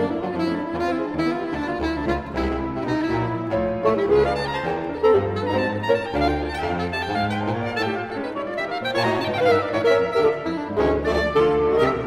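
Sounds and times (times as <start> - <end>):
saxophone quartet playing: 0.0 - 12.0.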